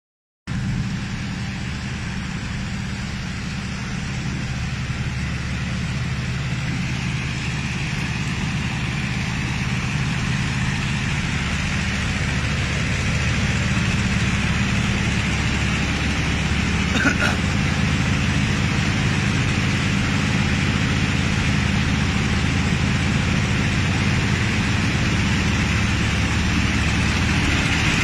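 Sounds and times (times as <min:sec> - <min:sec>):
truck engine humming: 0:00.5 - 0:28.0.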